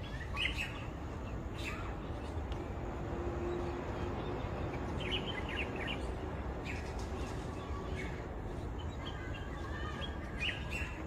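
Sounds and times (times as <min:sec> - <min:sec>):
birds chirping: 0:00.0 - 0:02.8, 0:03.4 - 0:11.0
low background noise: 0:00.0 - 0:11.0.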